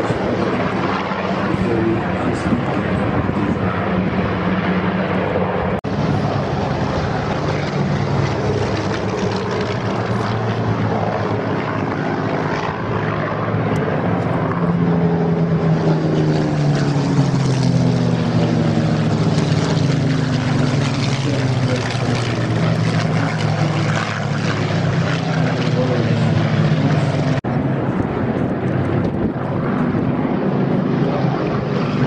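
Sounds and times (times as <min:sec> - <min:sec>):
propeller aircraft engines droning: 0:00.0 - 0:32.0.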